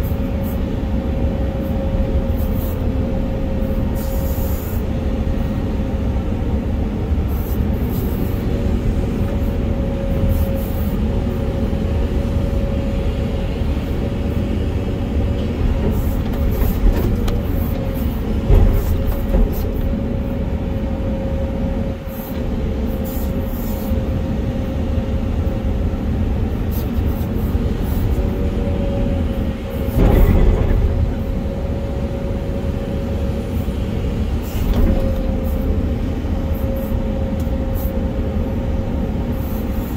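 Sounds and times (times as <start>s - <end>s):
excavator engine drone: 0.0s - 39.9s.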